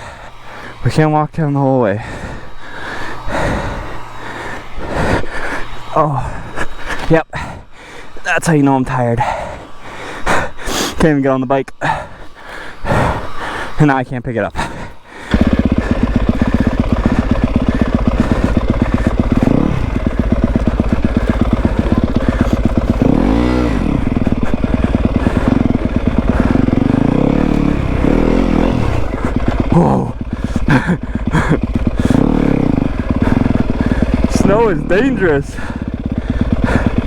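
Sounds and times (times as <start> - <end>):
motorcycle engine revving: 0.0 - 8.2, 9.2 - 10.6, 14.7 - 37.0.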